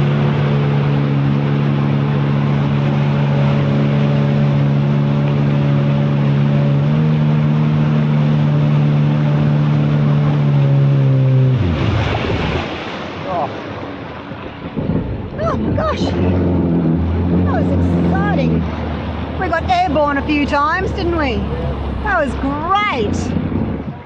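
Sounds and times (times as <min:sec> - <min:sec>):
jet ski engine: 0:00.0 - 0:24.0
wind and water rushing: 0:00.0 - 0:24.0.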